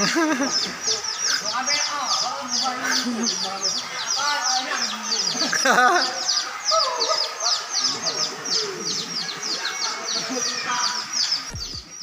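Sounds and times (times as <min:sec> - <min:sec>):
faint distant voices: 0:00.0 - 0:12.0
small bird chirping: 0:00.0 - 0:12.0.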